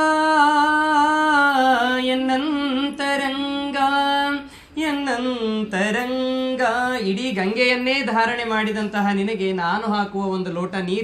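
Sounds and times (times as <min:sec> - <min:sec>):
solo voice singing: 0:00.0 - 0:11.0.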